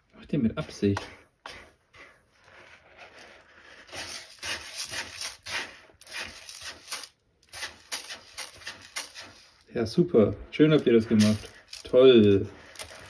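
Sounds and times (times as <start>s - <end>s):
kittens scratching in cat litter: 0.7s - 13.0s.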